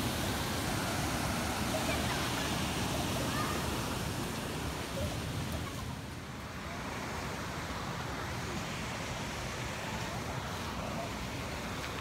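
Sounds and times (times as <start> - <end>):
waterfall river water rushing: 0.0 - 12.0.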